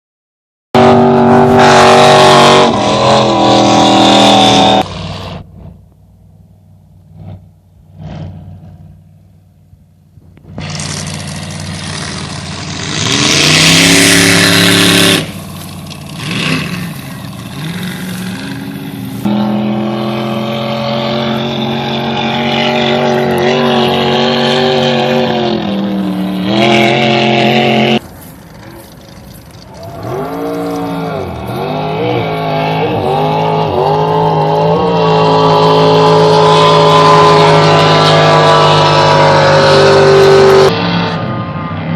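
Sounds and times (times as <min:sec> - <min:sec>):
racing boat engines revving: 0:00.8 - 0:05.8, 0:10.4 - 0:41.9.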